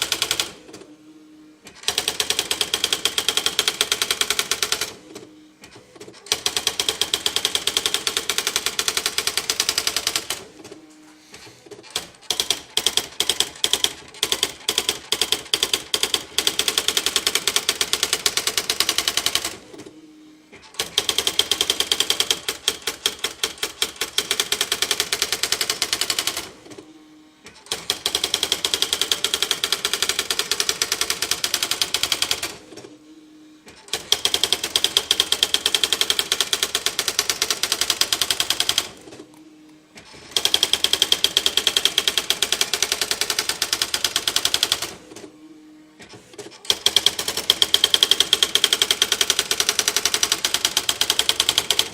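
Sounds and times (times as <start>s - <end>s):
electronic typewriter key strikes: 0.0s - 0.7s, 1.7s - 5.0s, 5.6s - 10.4s, 11.8s - 19.6s, 20.7s - 26.5s, 27.5s - 32.6s, 33.9s - 39.0s, 40.3s - 45.0s, 46.6s - 51.9s.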